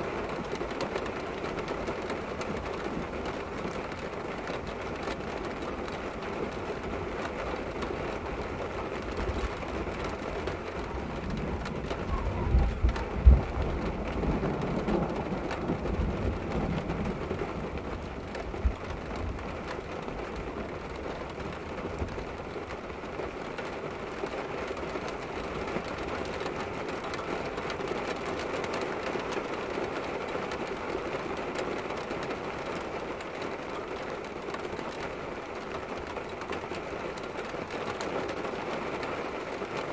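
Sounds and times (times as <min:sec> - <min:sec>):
heavy rain on window glass: 0:00.0 - 0:39.9.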